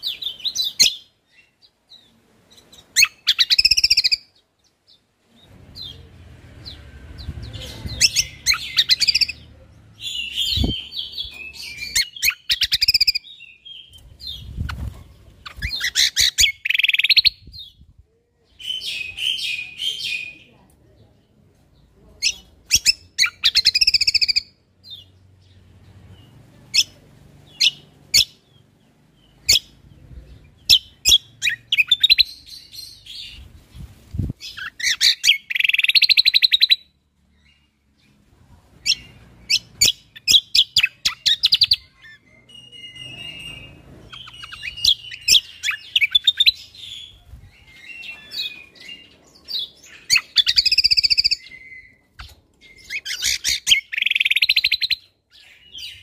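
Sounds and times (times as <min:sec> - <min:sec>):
bird chips and trills: 0:00.0 - 0:17.8, 0:22.2 - 0:38.2, 0:38.8 - 0:56.0.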